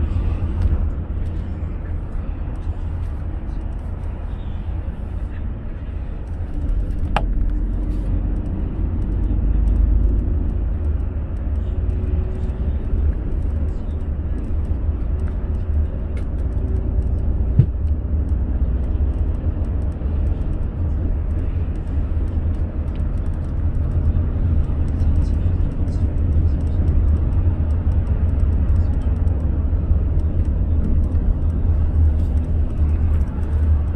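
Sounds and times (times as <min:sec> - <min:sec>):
road and engine rumble: 0:00.0 - 0:33.9.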